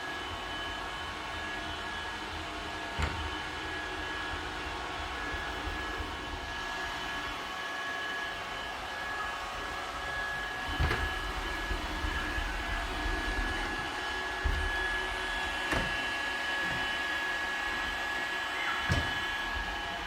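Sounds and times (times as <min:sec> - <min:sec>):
robot vacuum cleaner whirring: 0:00.0 - 0:20.0.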